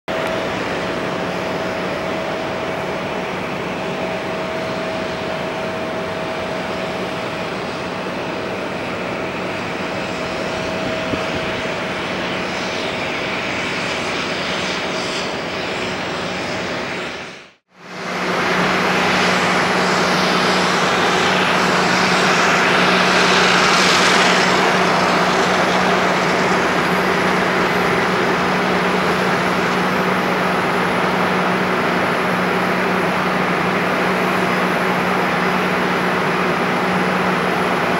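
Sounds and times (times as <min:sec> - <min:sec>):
jet engines running: 0:00.1 - 0:37.9.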